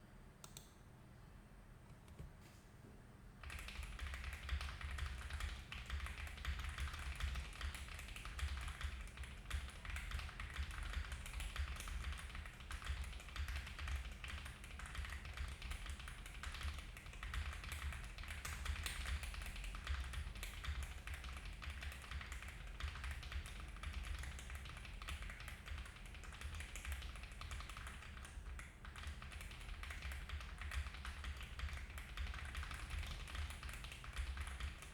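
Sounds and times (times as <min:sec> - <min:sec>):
mechanical keyboard typing: 0:03.4 - 0:34.9.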